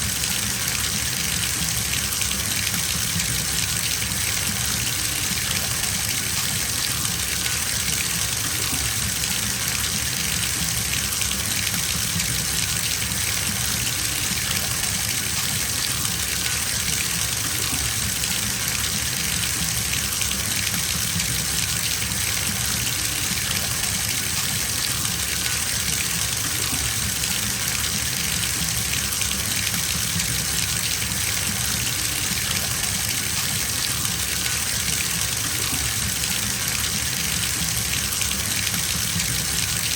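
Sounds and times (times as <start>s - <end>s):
water gushing from a tap: 0.0s - 39.9s.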